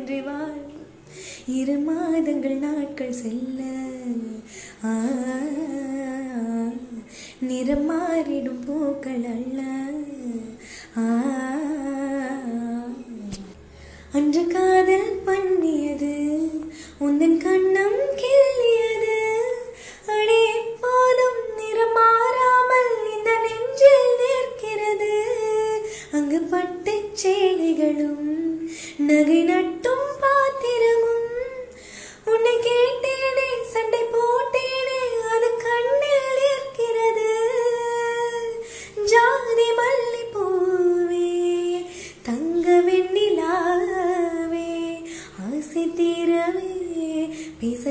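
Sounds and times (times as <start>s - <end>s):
woman singing and humming: 0.0s - 47.9s.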